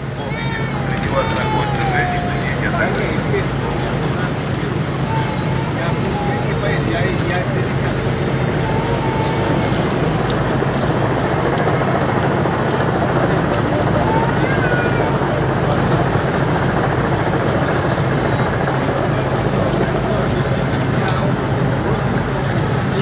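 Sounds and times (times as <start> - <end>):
faint distant voices: 0.0 - 23.0
street and crowd noise: 0.0 - 23.0
vehicle engine idling: 0.0 - 23.0.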